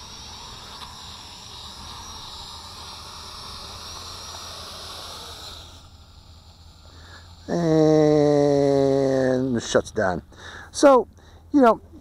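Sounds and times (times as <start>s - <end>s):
quadcopter motors whirring: 0.0s - 12.0s.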